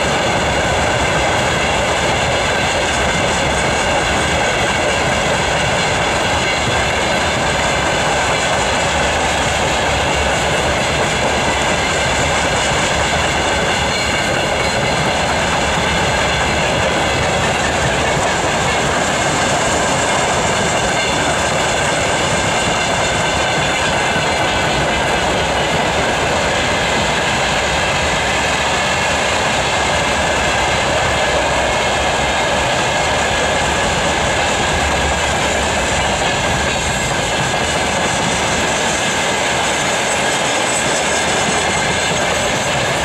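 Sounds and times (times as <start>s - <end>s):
steel wheels rolling on rails: 0.0s - 43.0s.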